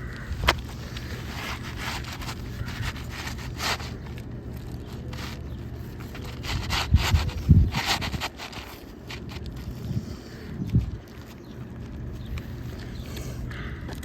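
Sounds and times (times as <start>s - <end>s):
scraping and rustling on shingle roof: 0.0s - 14.0s.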